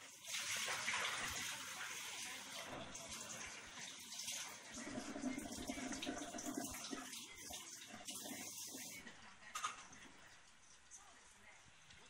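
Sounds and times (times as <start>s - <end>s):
running water: 0.0s - 10.1s.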